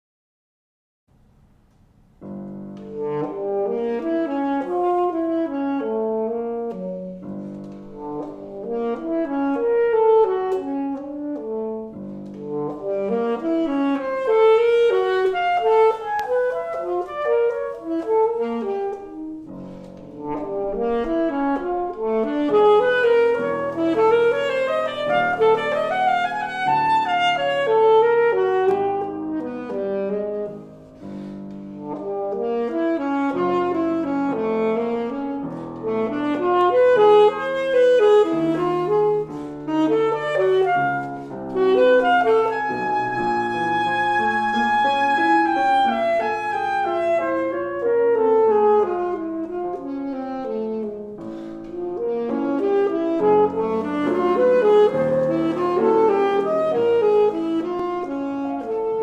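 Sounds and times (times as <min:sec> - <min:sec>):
grand piano: 0:01.1 - 0:59.0
alto saxophone: 0:01.7 - 0:59.0.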